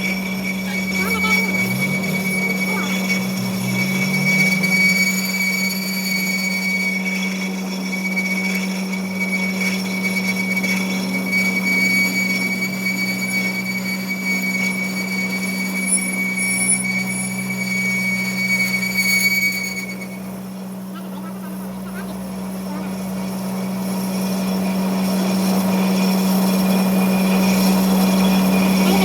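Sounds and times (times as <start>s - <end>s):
high-pitched squeal: 0.0s - 20.9s, 21.5s - 29.0s
machine humming: 0.0s - 29.0s.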